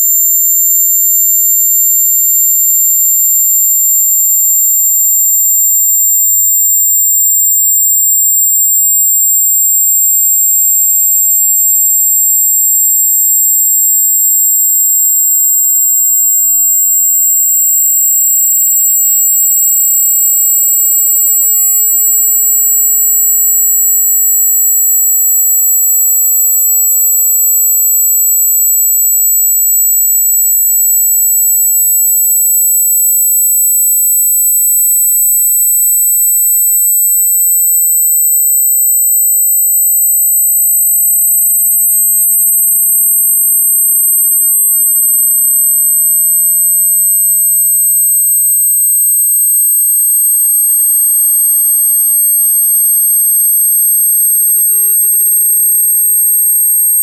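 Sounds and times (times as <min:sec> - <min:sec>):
high-pitched sine test tone: 0:00.0 - 0:57.0.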